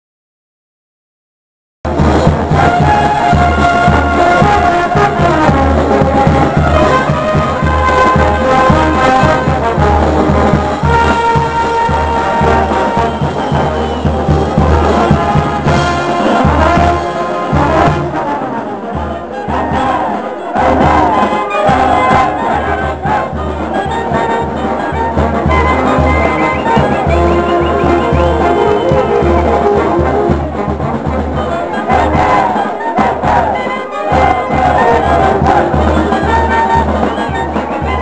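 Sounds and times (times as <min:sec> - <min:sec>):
brass band playing dance tune: 0:01.9 - 0:38.0
drum beat: 0:01.9 - 0:38.0.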